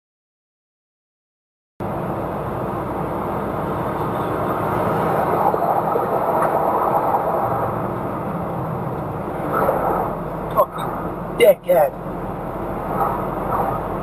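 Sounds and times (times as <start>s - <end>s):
vehicle engine and road rumble: 1.8s - 14.0s.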